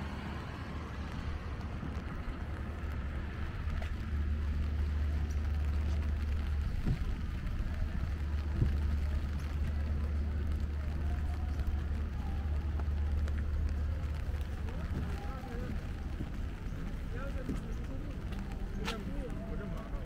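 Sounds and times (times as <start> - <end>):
low city rumble: 0.0 - 20.0
rain on wet pavement: 0.0 - 20.0.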